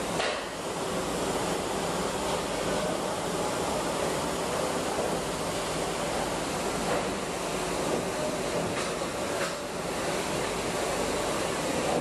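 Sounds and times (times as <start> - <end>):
machine or fan running: 0.0 - 12.0.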